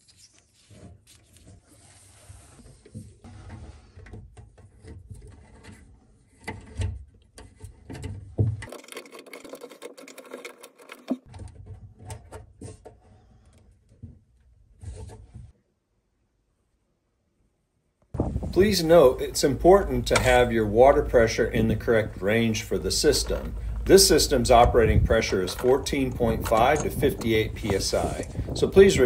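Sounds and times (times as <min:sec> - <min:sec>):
plastic rubbing: 0:00.0 - 0:15.6, 0:18.2 - 0:29.0.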